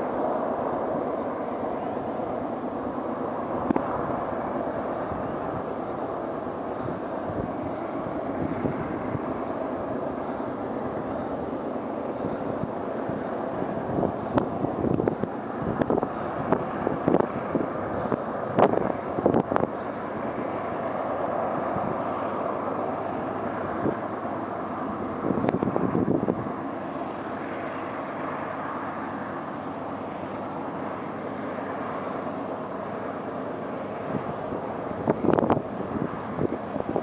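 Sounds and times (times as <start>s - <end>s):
distant diesel locomotives droning: 0.0s - 37.0s
wind buffeting microphone: 0.0s - 37.0s.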